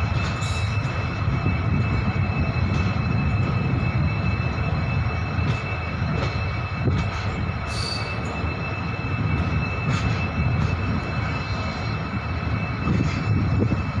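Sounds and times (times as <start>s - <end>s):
diesel locomotive humming: 0.0s - 14.0s
high whine: 0.0s - 14.0s.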